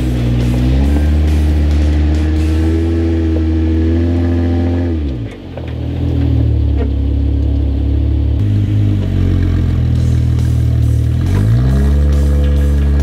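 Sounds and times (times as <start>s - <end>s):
car engine climbing: 0.0s - 13.0s.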